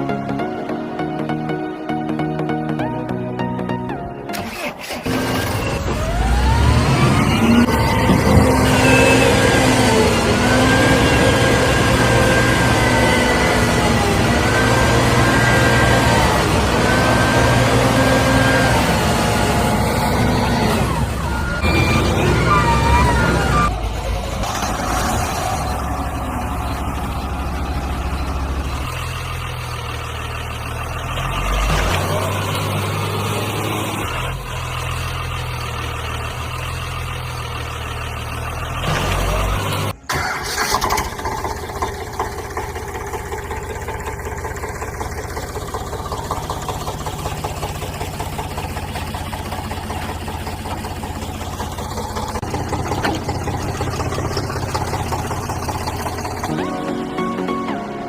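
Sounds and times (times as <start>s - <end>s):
heavy vehicle engines running: 4.2s - 58.0s.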